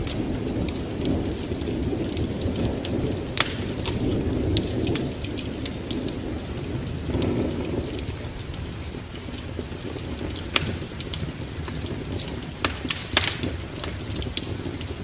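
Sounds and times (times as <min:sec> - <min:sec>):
flame rushing: 0:00.0 - 0:15.0
wood fire crackling: 0:00.0 - 0:15.0.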